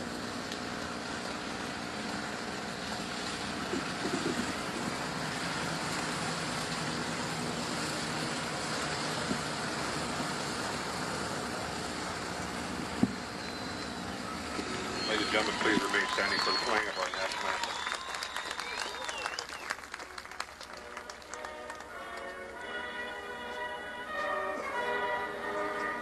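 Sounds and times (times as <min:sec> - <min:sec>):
race car engines rumbling: 0:00.8 - 0:22.6.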